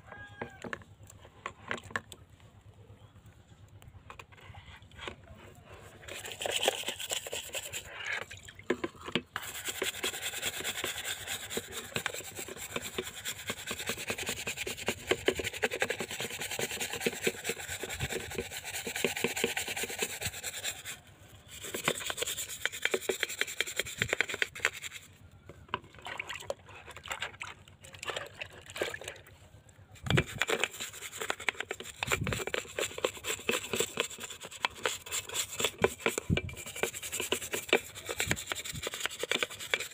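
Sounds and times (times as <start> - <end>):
stiff brush scrubbing wet metal: 4.1 - 29.3, 30.0 - 39.9.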